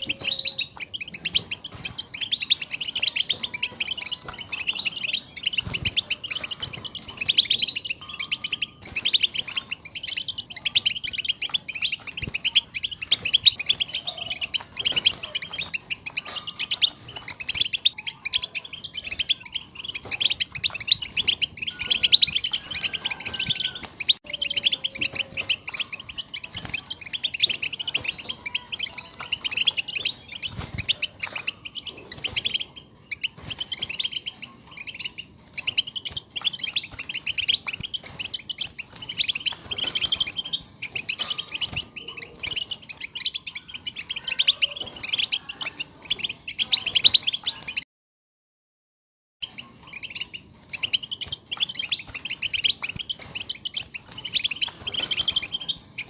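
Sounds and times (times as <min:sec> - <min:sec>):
goldfinches twittering and singing: 0:00.0 - 0:47.8, 0:49.4 - 0:56.0.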